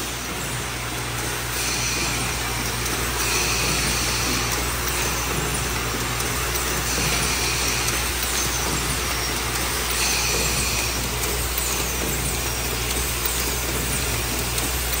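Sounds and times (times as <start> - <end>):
mechanical noise: 0.0 - 15.0.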